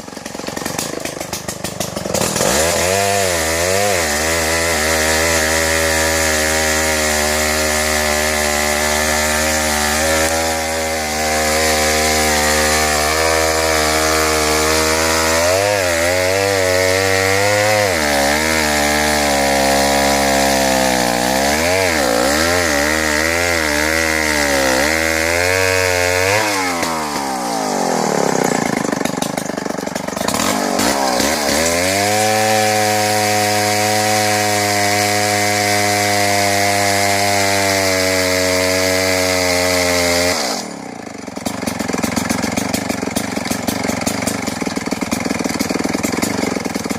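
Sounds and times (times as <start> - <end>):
chainsaw cutting tree: 0.0 - 46.9.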